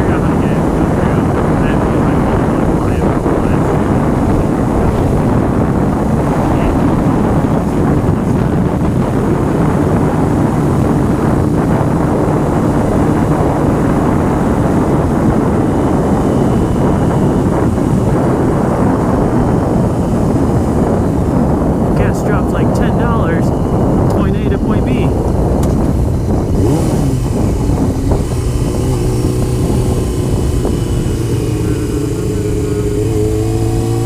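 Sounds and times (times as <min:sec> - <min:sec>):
motorcycle engine running: 0:00.0 - 0:34.0
wind noise over microphone: 0:00.0 - 0:34.0.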